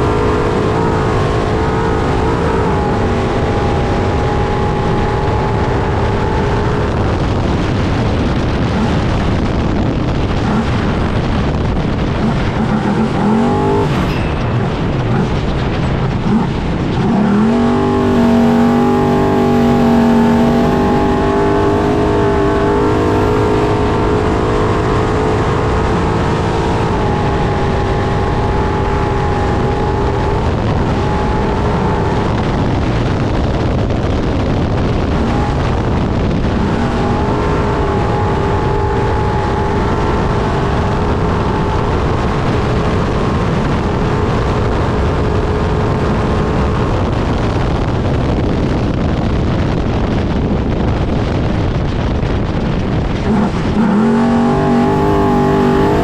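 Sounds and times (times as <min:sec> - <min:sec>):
rough road noise: 0:00.0 - 0:56.0
truck engine running hard: 0:00.0 - 0:56.0
wind noise: 0:00.0 - 0:56.0.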